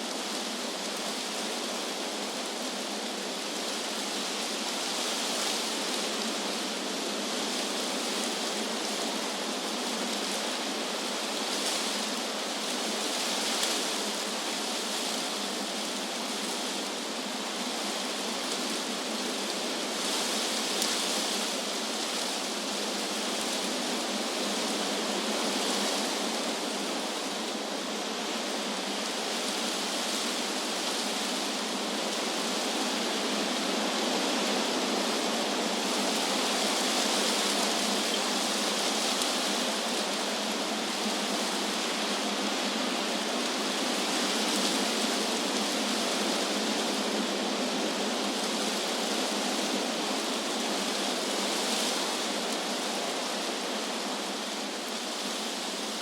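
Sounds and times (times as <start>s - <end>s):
wind rustling tree leaves: 0.0s - 56.0s.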